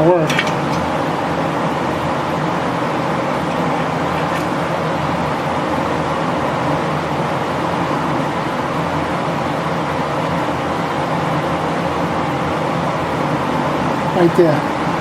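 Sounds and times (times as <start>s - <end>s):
mechanical noise with low hum: 0.0s - 15.0s.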